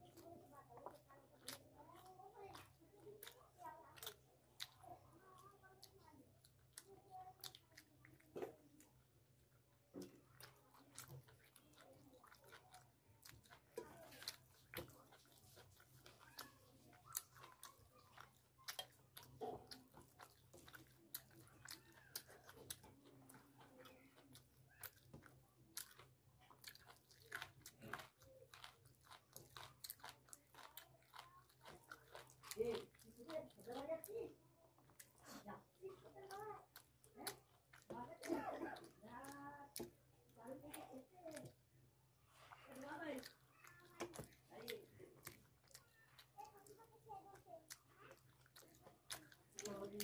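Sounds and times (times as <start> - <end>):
wet chewing mouth clicks: 0.0 - 50.0.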